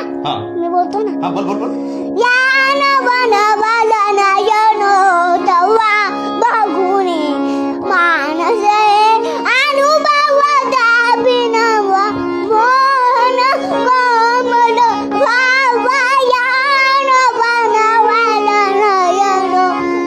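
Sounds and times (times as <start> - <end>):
child singing: 0.0 - 1.4, 2.2 - 20.0
harmonium: 0.0 - 20.0.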